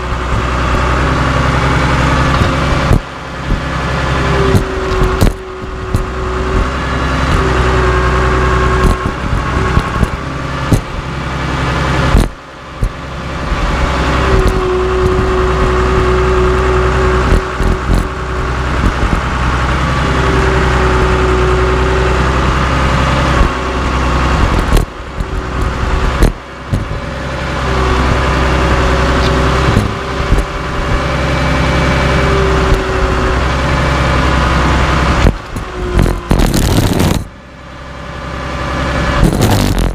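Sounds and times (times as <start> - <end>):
bulldozer diesel engine running: 0.0 - 39.9
engine whine: 0.0 - 39.9.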